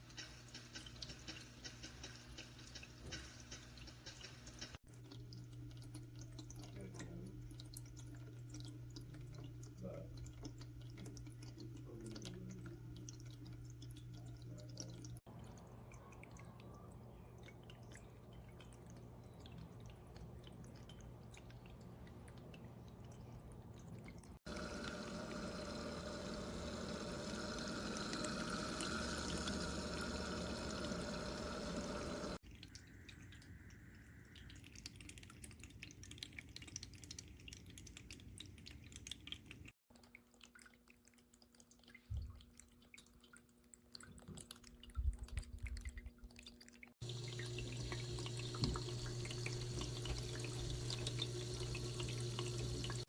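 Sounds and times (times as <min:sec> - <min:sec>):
water trickling over rocks: 0:00.0 - 0:53.0.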